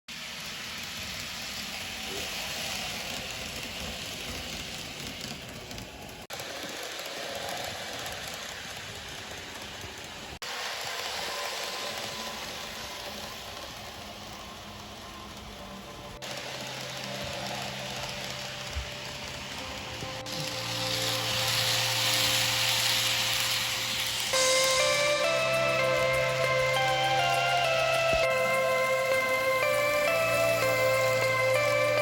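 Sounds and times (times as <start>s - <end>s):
model train wheels on track: 0.1s - 32.0s.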